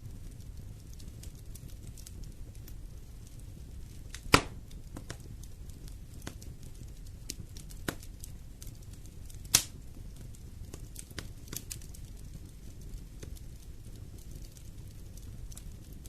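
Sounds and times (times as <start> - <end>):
loud fire pops: 0.0 - 16.0
low fire rumble: 0.0 - 16.0
wood fire crackling: 0.0 - 16.0.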